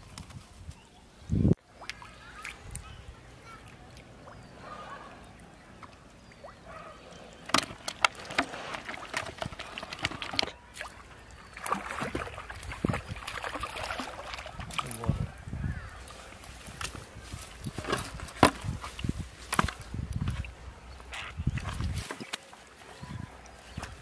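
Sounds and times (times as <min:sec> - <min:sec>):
water splashing and gurgling: 0:01.4 - 0:24.0.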